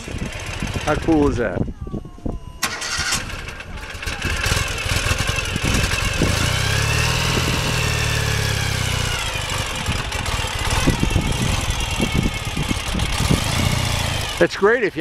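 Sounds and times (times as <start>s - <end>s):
motorcycle engine running: 0.0s - 1.7s, 2.7s - 15.0s.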